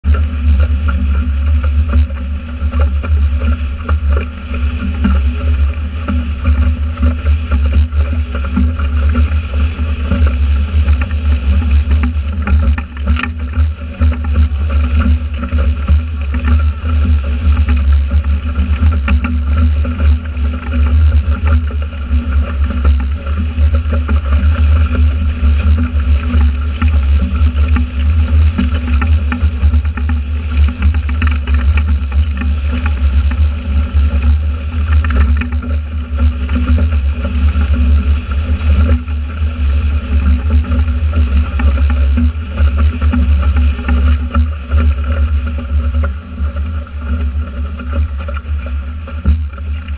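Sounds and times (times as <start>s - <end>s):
water rushing past hull: 0.0s - 49.9s
faint steady tones: 0.1s - 49.9s.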